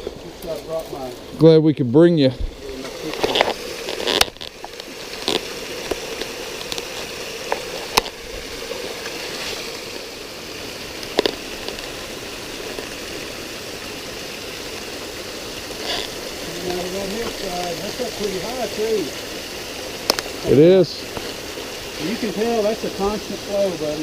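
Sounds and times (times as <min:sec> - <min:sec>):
waterfall running: 0:00.0 - 0:24.0.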